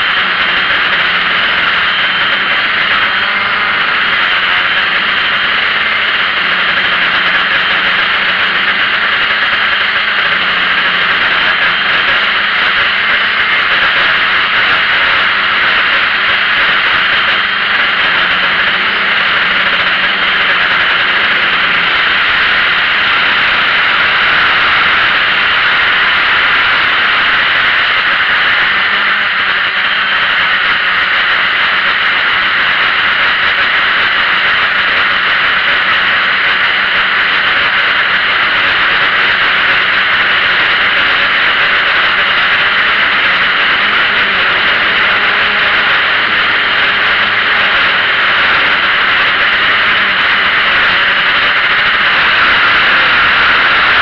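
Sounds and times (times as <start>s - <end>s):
drone motors whirring: 0.0s - 54.0s.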